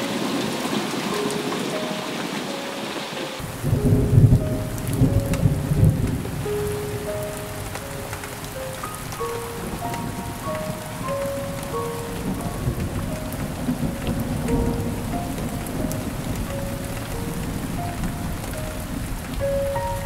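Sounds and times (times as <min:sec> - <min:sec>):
heavy rain pattering: 0:00.0 - 0:20.0
soft slow melody: 0:00.0 - 0:20.0
thunder rumbling: 0:00.0 - 0:20.0.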